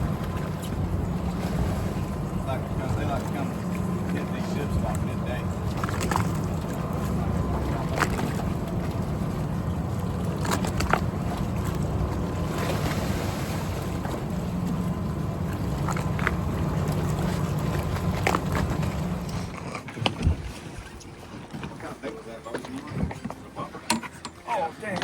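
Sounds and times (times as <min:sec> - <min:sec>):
boat motor running: 0:00.0 - 0:25.0
water noise: 0:00.0 - 0:25.0
wind: 0:00.0 - 0:25.0.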